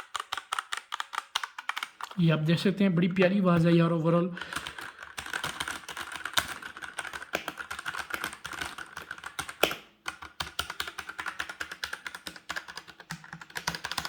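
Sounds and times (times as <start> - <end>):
mechanical keyboard typing: 0.0 - 2.3, 4.4 - 14.0.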